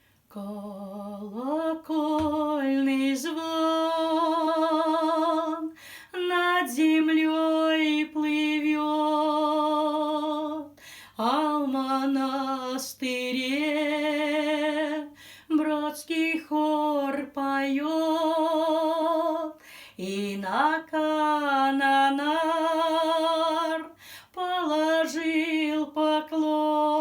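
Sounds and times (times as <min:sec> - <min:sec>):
woman singing wordless melody: 0:00.3 - 0:27.0.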